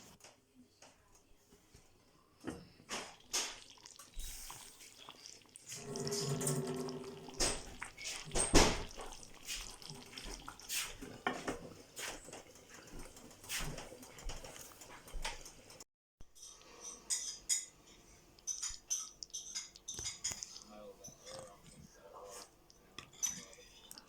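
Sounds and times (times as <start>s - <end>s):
cookware and utensils clattering: 2.4s - 15.8s, 16.4s - 24.0s.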